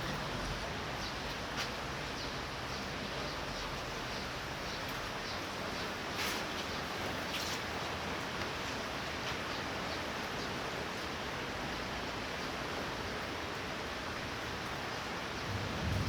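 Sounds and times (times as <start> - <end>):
torrential rain falling: 0.0 - 16.0.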